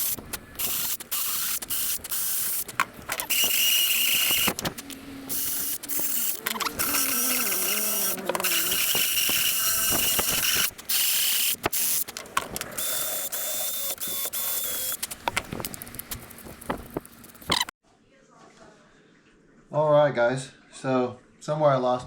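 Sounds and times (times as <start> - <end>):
power tool grinding plastic: 0.0 - 17.7.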